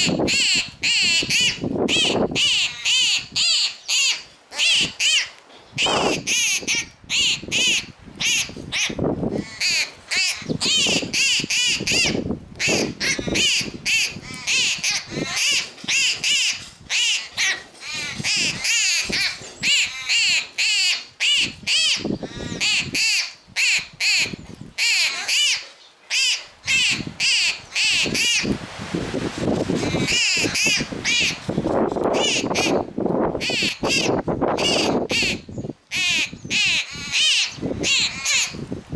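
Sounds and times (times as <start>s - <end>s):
adult birds calling: 0.0s - 28.6s, 29.8s - 31.4s, 32.1s - 38.7s.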